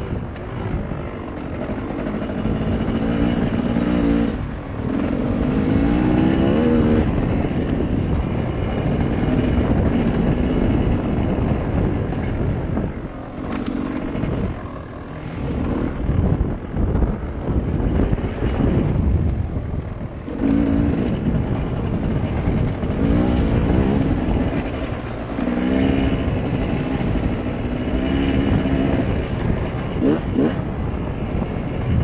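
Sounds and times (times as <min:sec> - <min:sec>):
dirt bike engine revving: 0:00.0 - 0:19.0, 0:20.2 - 0:30.9.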